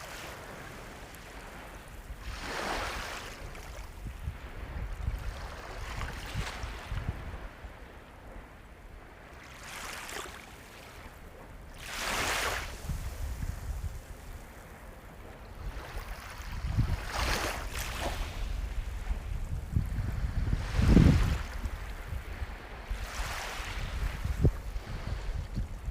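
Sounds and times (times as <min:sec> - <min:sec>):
sea waves breaking: 0:00.0 - 0:08.4, 0:09.1 - 0:25.9.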